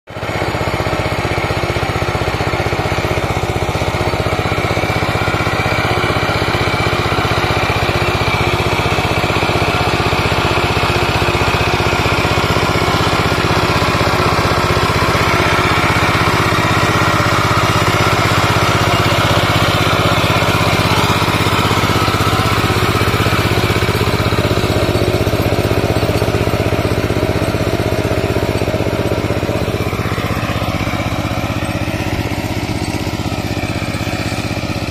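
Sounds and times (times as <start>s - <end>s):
hand tractor diesel engine running: 0.1s - 34.9s.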